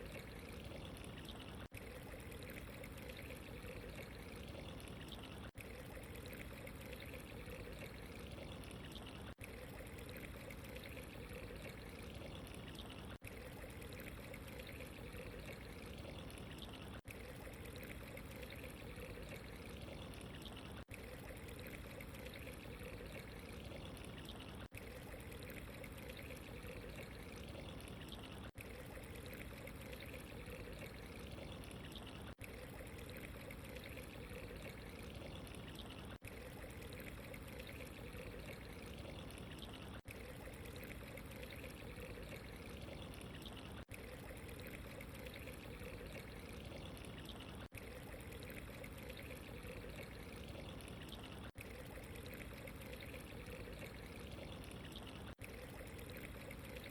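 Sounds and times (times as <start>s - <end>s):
water trickling and pouring: 0.0s - 56.9s.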